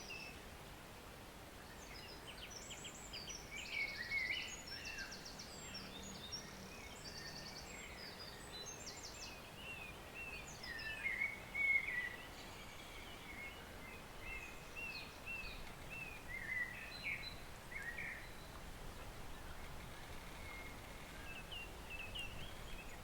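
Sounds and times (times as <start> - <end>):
songbirds chirping and singing: 1.7 - 23.0.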